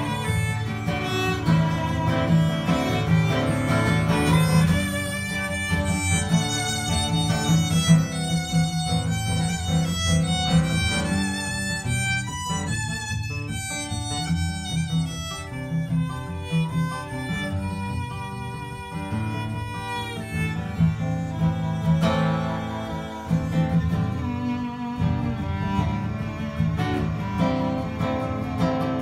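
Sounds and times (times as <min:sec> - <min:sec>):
fiddle melody: 0:00.0 - 0:29.0
strummed acoustic guitar: 0:00.0 - 0:29.0.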